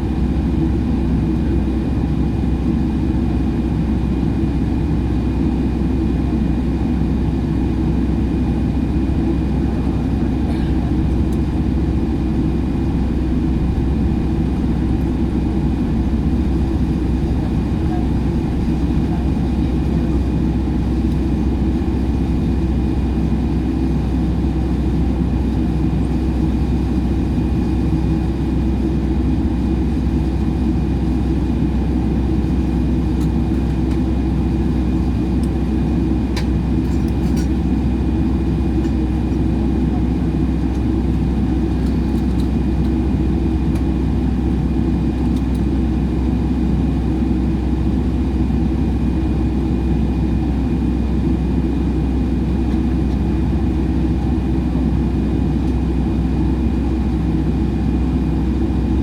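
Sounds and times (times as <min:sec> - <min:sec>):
airliner cabin rumble: 0:00.0 - 0:59.0
constant high whine: 0:00.0 - 0:59.0.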